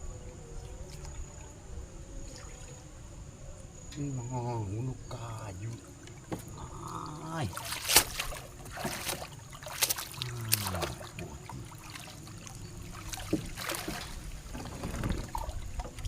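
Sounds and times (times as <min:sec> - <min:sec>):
faint water sound: 0:00.0 - 0:16.0.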